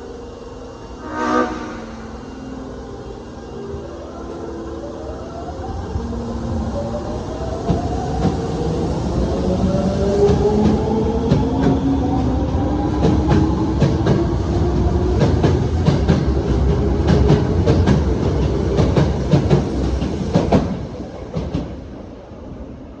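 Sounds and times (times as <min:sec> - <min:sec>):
subway train inverter whine: 0:00.0 - 0:23.0.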